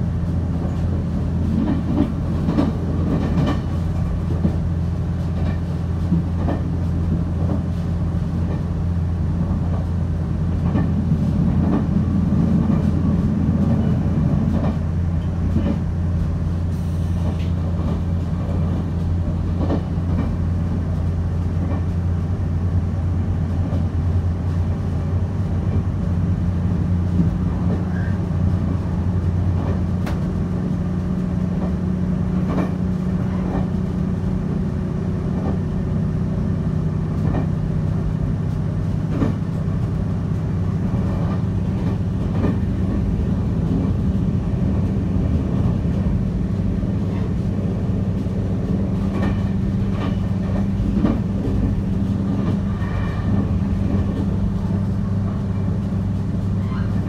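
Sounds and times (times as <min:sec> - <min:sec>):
train running gear rumble: 0:00.0 - 0:57.0.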